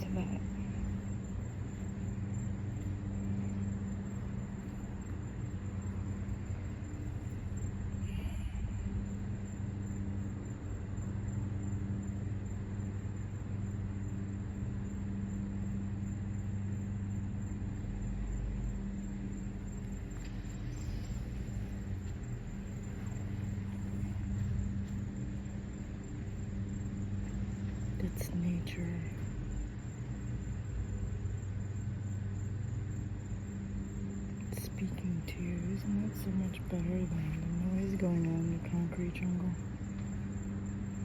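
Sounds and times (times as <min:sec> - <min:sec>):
faint hum: 0:00.0 - 0:41.0
low outdoor rumble: 0:00.0 - 0:41.0.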